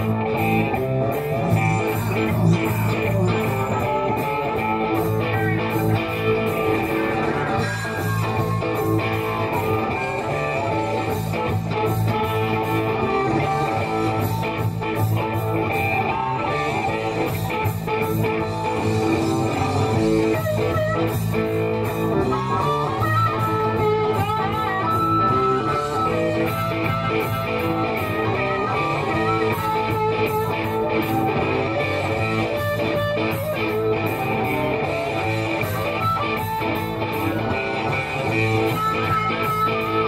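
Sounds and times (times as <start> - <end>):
amplified harmonica: 0.0 - 40.0
electric blues band playing: 0.0 - 40.0.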